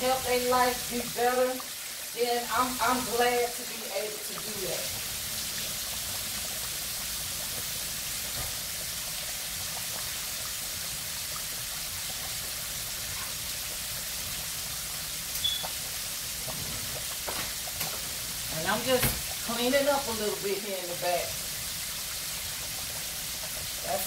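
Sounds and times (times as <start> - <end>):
oil sizzling and bubbling: 0.0 - 24.0.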